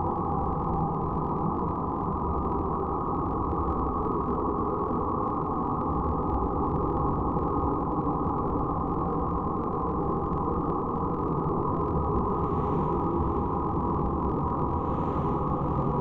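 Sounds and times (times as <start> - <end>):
dark ambient noise drone: 0.0 - 16.0.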